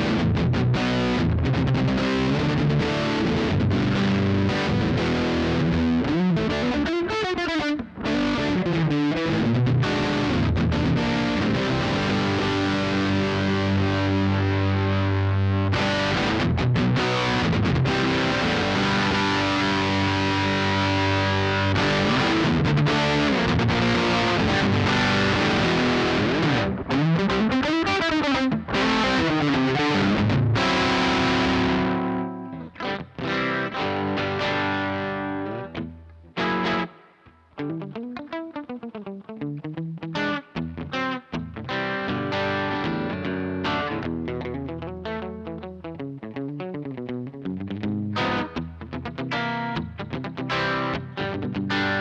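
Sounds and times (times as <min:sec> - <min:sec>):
electric guitar playing: 0:00.0 - 0:52.0.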